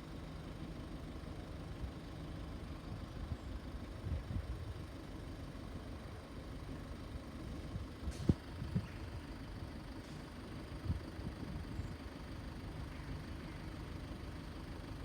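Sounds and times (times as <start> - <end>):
vehicle engines idling: 0.0 - 15.0.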